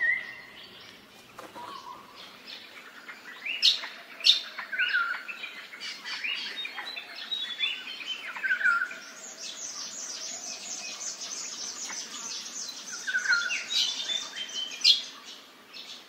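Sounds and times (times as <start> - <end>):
birds chirping chorus: 0.0 - 16.0.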